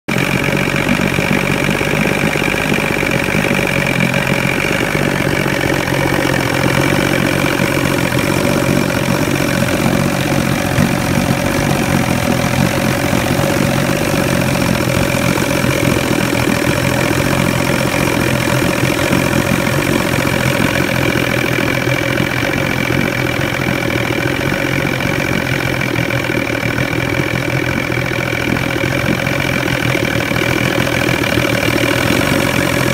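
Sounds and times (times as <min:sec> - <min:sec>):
outboard motor running: 0:00.1 - 0:32.9.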